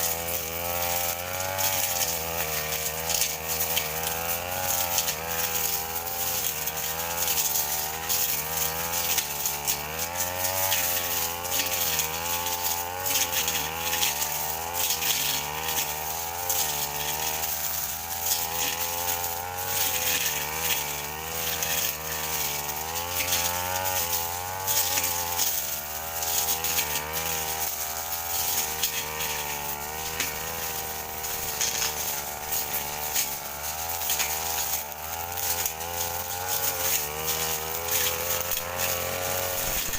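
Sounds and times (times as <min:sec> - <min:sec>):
brush cutter engine: 0:00.0 - 0:39.9.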